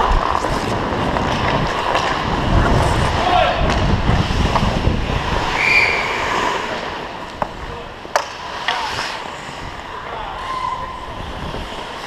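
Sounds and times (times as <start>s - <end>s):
ice skating rushing noise: 0.0s - 12.0s.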